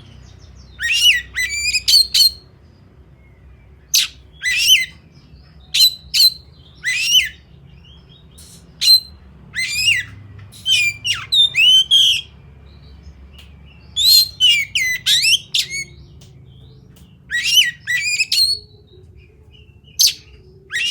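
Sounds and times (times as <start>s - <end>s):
bird singing whistled notes: 0.0s - 20.9s.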